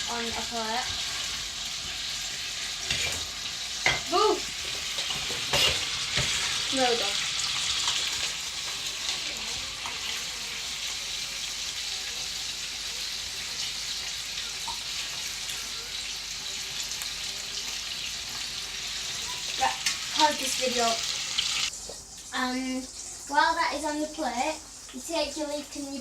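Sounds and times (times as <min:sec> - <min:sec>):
oil sizzling in a frying pan: 0:00.0 - 0:26.0.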